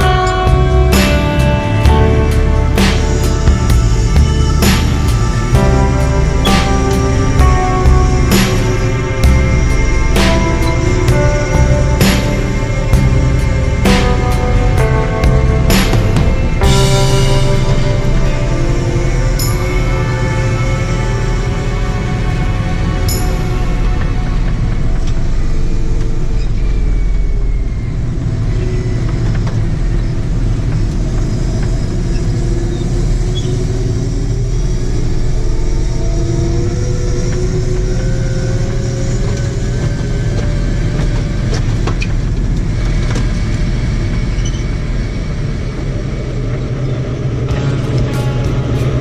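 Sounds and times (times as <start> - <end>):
harvest machinery engine drone: 0.0 - 49.0.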